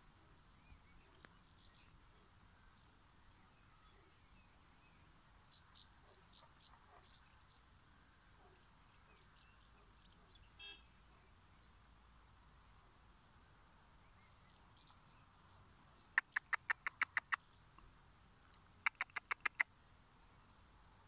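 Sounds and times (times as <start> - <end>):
faint bird chirps: 0.2 - 7.7, 8.4 - 11.8, 14.0 - 17.8, 18.8 - 21.0.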